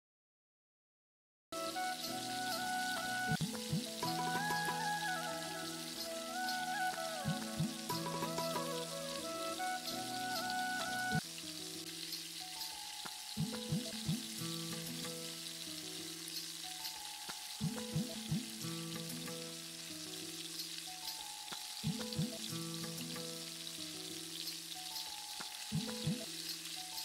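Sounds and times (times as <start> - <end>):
looping background music: 1.6 - 11.2, 12.2 - 27.0
oil sizzling while frying: 1.6 - 27.0.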